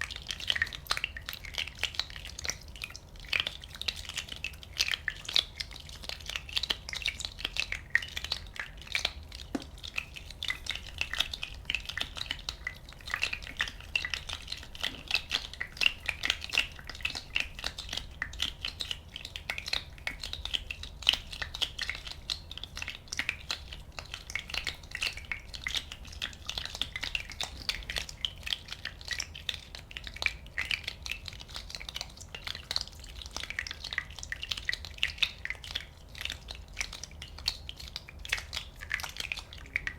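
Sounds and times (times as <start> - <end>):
small bubbles popping: 0.0 - 39.9.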